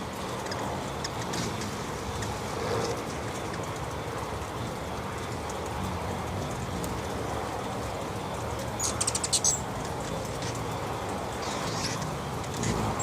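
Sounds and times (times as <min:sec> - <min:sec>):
background rumble and hiss: 0:00.0 - 0:13.0
hummingbird chittering chips: 0:00.0 - 0:13.0.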